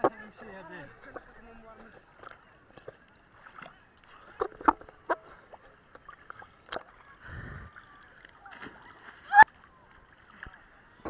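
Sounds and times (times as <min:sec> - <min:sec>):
sea water sloshing against camera: 0:00.8 - 0:11.0.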